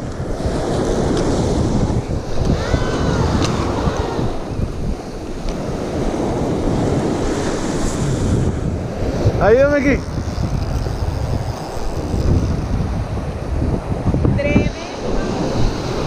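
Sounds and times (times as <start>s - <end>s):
small surf breaking: 0.0s - 14.0s
wind buffeting microphone: 0.0s - 16.0s.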